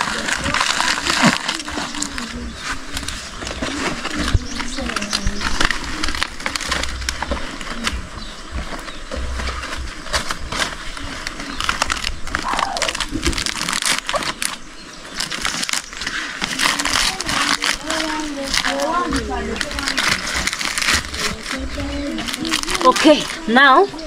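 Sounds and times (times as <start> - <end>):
banana leaves rustling and crinkling: 0.0 - 24.0.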